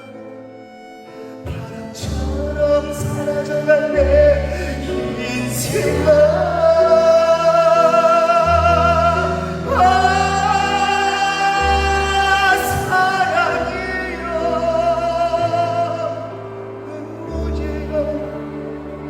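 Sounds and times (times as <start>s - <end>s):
man singing with vibrato: 0.0s - 19.0s
backing music with bass line: 1.3s - 19.0s.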